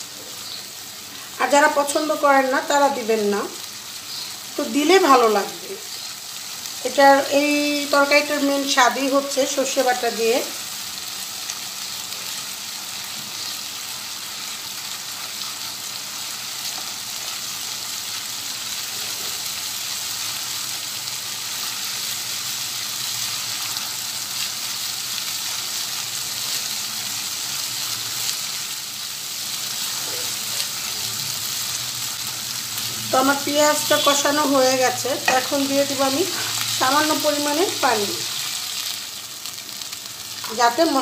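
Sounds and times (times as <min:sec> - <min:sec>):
paste sizzling in hot oil: 0:00.0 - 0:41.0.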